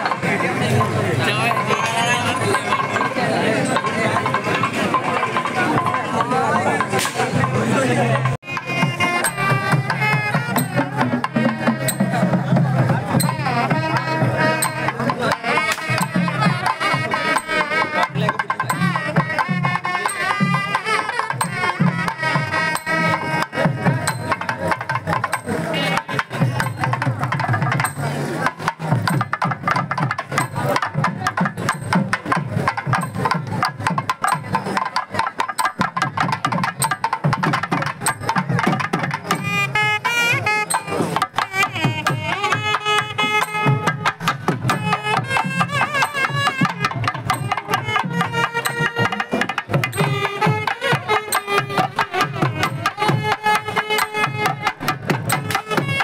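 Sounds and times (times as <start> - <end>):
barrel drums beating fast rhythm: 0.0 - 56.0
double-reed pipes playing melody: 0.3 - 26.2, 34.8 - 56.0.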